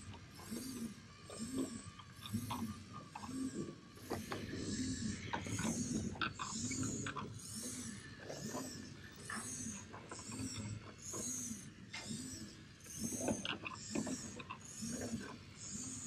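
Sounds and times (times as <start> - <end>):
toy motor and gears whirring: 0.0 - 16.0.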